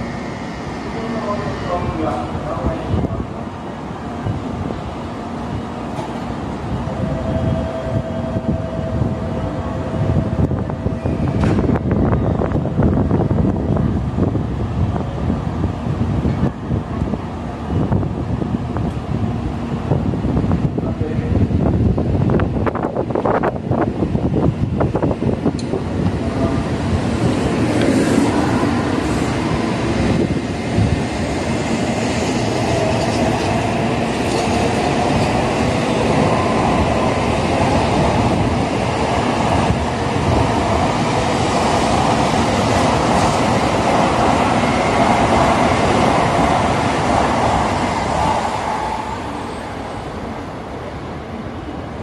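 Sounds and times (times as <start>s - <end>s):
train wheels rushing on rail: 0.0s - 52.0s.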